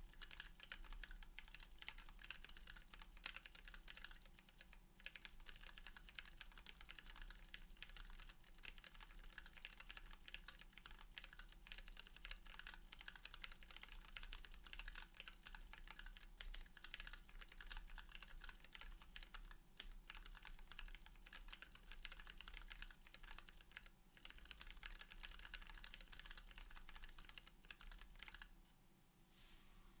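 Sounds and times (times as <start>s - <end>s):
mechanical keyboard typing: 0.0s - 28.5s.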